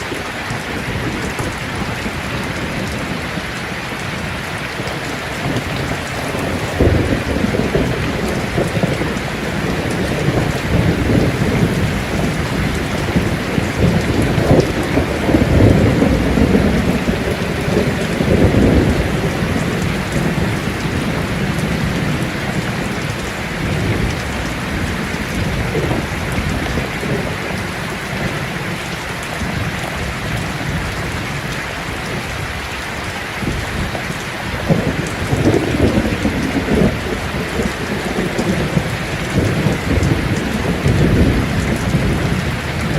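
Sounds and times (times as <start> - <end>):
rolling thunder: 0.0 - 32.4, 33.4 - 42.9
heavy rain falling: 0.0 - 42.9.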